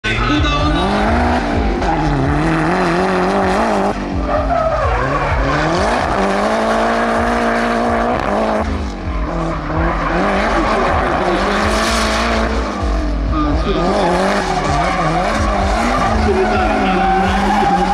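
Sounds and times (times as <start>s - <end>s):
car engine at high revs: 0.0s - 17.9s
tyres squealing and skidding: 0.0s - 17.9s.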